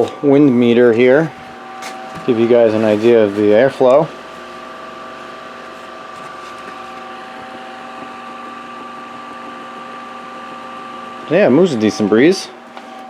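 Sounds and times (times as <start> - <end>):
table fan running: 0.0 - 13.0.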